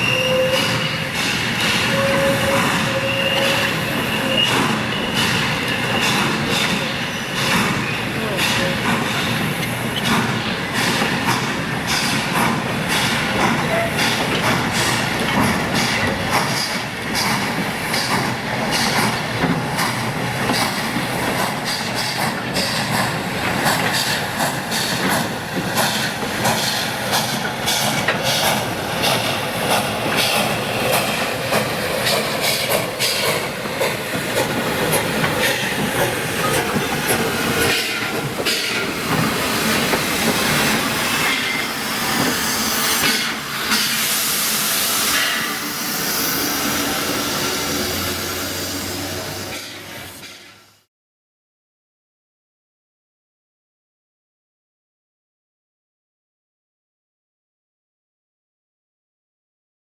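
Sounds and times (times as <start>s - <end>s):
train wheels clicking over rail joints: 0.4s - 50.6s.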